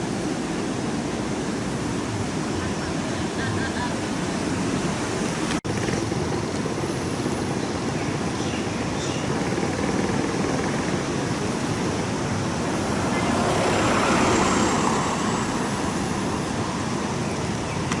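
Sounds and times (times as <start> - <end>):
heavy surf roaring: 0.0 - 18.0
strong wind: 0.0 - 18.0
wave breaking: 0.0 - 18.0.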